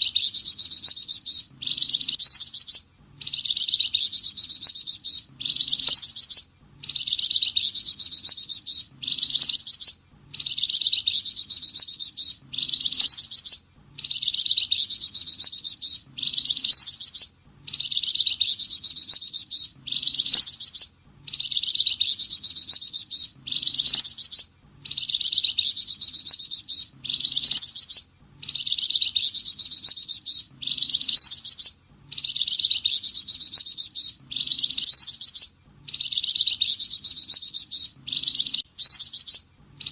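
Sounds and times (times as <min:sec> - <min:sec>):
songbird high-pitched trill: 0:00.0 - 0:39.9.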